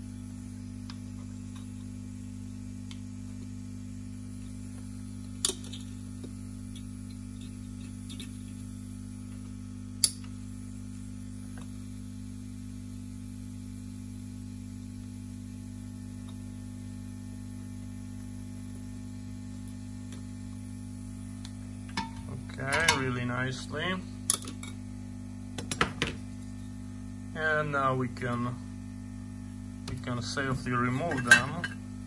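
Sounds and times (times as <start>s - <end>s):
electrical mains hum: 0.0s - 32.0s.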